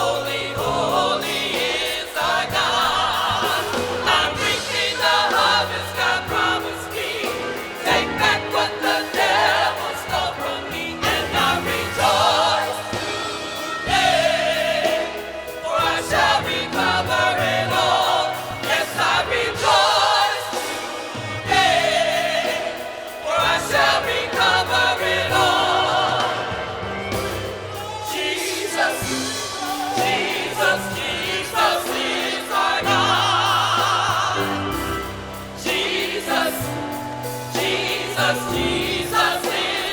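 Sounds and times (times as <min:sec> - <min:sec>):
choir singing gospel: 0:00.0 - 0:39.9.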